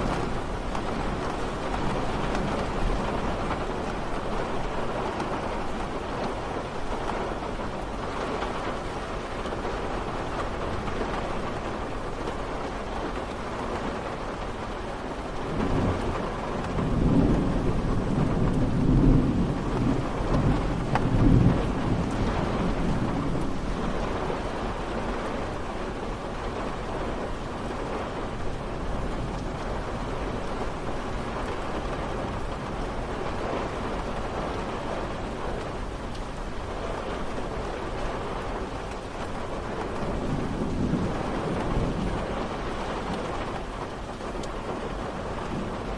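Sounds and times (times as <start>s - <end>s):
steady rain falling: 0.0s - 45.9s
thunder rumbling: 0.0s - 45.9s.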